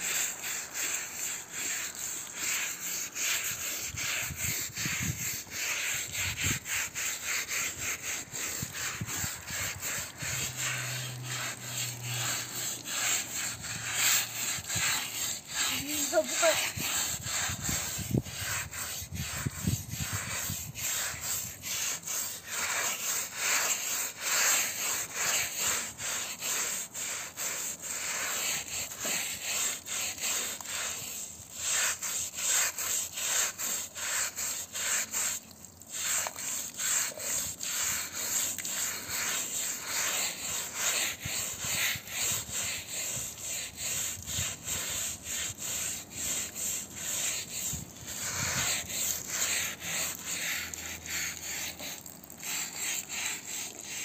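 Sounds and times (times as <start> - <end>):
brush scrubbing wet carpet: 0.0 - 54.0.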